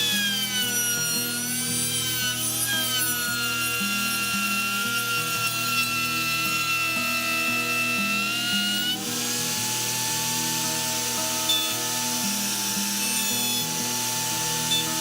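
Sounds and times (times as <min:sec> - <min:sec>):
power tool motor whine: 0:00.0 - 0:15.0
rasping wood cutting: 0:00.0 - 0:15.0.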